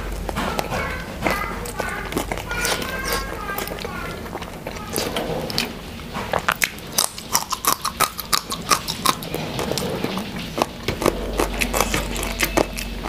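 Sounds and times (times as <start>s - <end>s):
mouth clicks and smacks: 0.0s - 13.0s
person chewing food: 0.0s - 13.0s.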